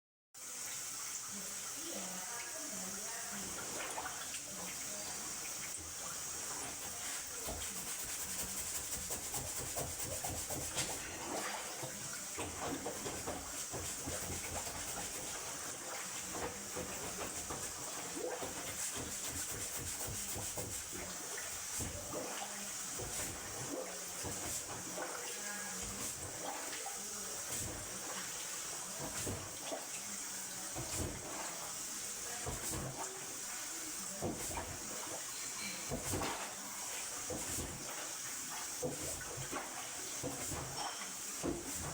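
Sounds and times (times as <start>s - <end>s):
water running: 0.4s - 41.9s.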